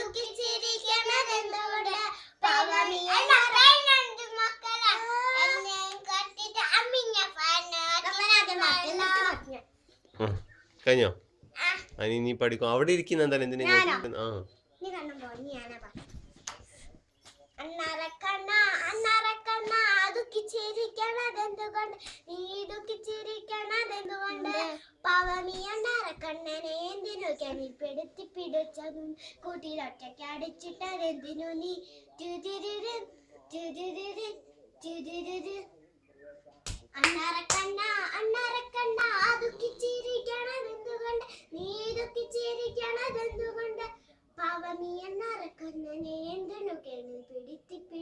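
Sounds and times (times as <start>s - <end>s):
girl singing: 0.0s - 9.7s, 17.6s - 35.7s, 37.0s - 48.0s.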